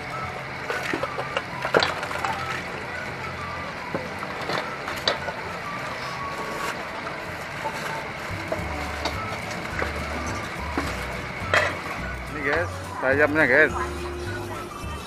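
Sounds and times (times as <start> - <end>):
crowd and street noise: 0.0 - 15.0.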